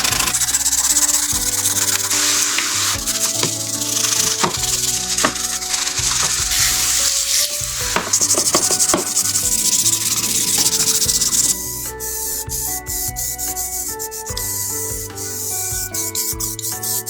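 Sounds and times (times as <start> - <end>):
background music: 0.0 - 17.0
sanding a surface: 0.0 - 17.0.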